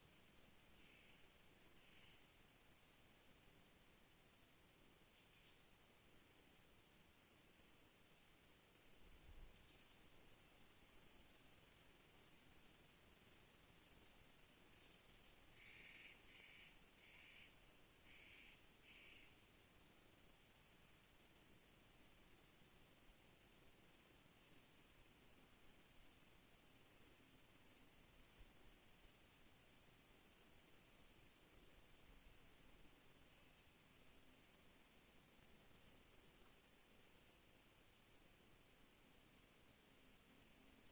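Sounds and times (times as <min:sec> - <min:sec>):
crickets trilling: 0:00.1 - 0:03.6, 0:04.3 - 0:23.1, 0:25.3 - 0:40.9.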